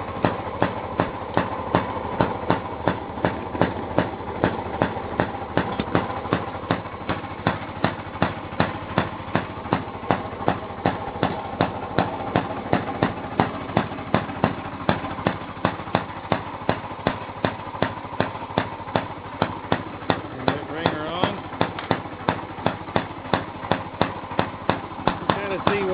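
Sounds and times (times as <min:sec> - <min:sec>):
gas engine popping: 0:00.0 - 0:25.9.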